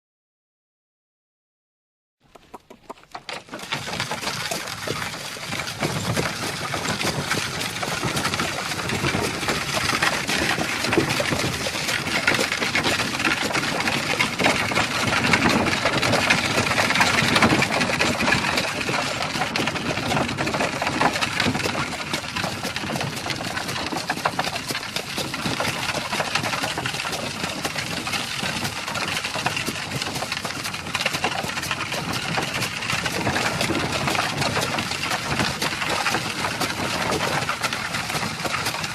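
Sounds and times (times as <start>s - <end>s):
cart wheels rattling: 2.2s - 38.9s
hooves clattering: 2.2s - 38.9s.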